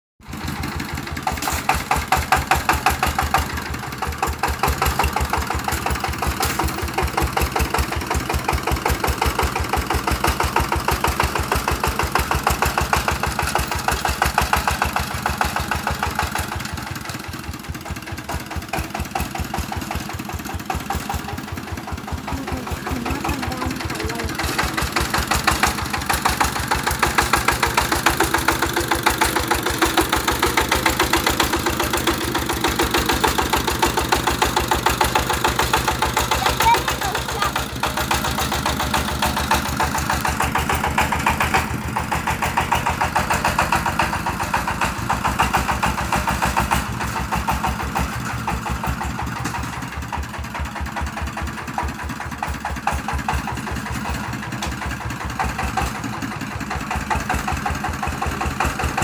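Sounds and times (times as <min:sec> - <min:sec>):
diesel engine knocking under load: 0:00.2 - 0:59.0.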